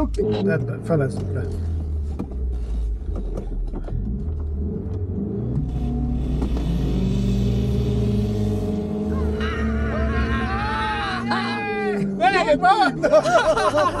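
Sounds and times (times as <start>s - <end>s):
car engine pulling under load: 0.0s - 14.0s.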